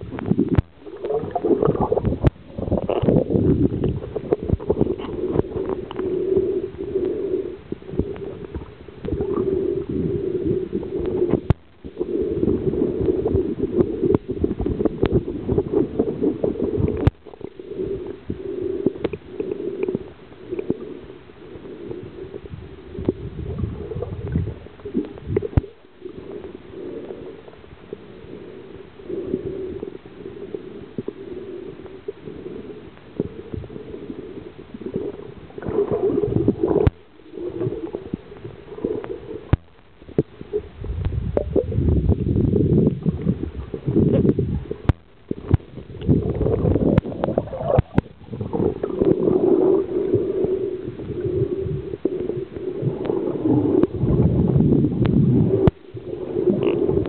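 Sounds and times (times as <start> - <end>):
water gurgling and rumbling: 0.0 - 57.0.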